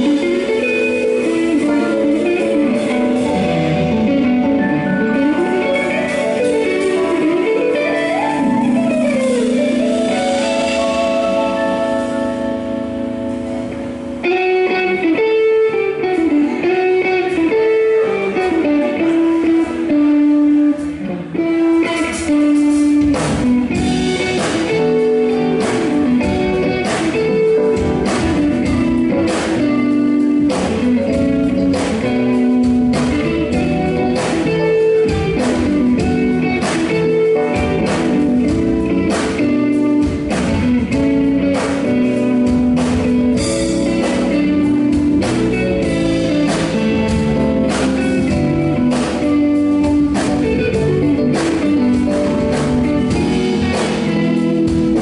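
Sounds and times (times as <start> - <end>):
drums steady beat: 0.0 - 15.0, 17.3 - 55.0
bass and keyboard: 0.0 - 55.0
electric guitar melody: 0.0 - 55.0.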